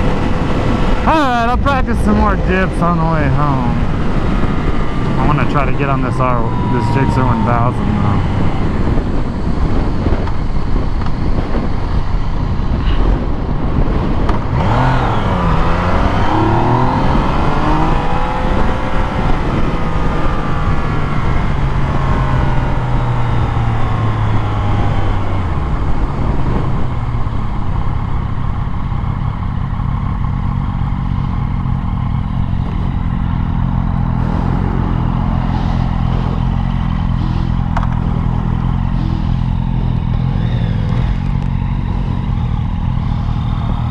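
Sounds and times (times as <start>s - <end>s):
motorcycle engine: 0.0s - 43.9s.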